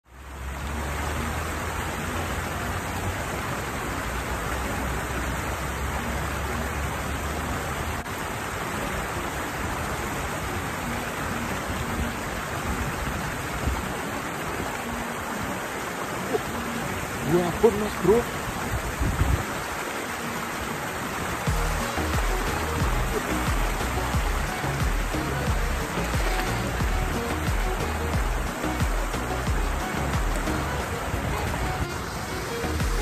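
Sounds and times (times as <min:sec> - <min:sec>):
water rushing over a weir: 0:00.0 - 0:33.0.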